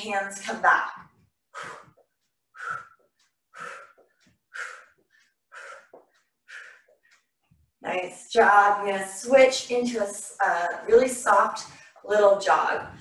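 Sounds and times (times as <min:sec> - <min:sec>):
exercise steps: 0:00.0 - 0:13.0.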